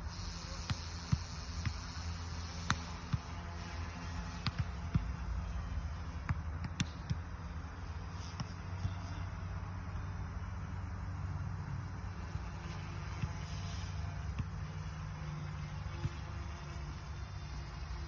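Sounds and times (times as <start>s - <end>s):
rc helicopter rotor hum: 0.0s - 18.0s.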